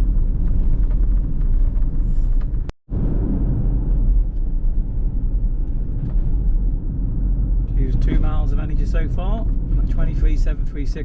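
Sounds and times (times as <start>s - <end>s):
road and tyre rumble in car: 0.0s - 11.0s.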